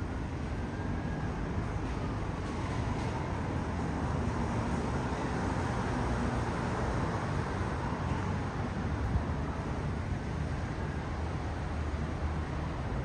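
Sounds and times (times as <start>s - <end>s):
elevated train rumble and hiss: 0.0s - 13.0s.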